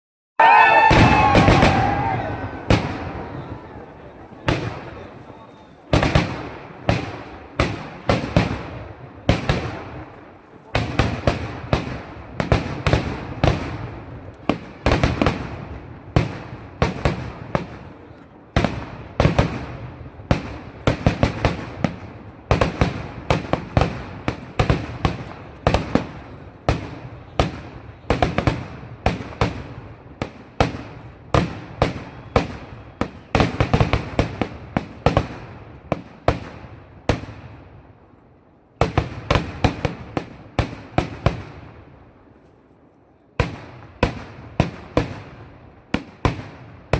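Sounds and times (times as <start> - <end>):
firecracker blasts echoing: 0.4 - 42.5, 43.1 - 46.9.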